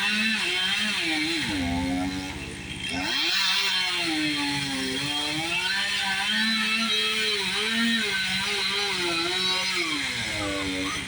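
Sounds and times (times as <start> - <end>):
chainsaw engine at high revs: 0.0 - 11.0.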